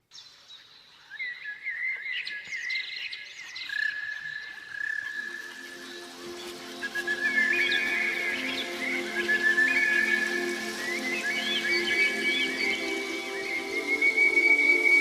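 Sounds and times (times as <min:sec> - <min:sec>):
birds chirping and warbling: 0:00.1 - 0:15.0.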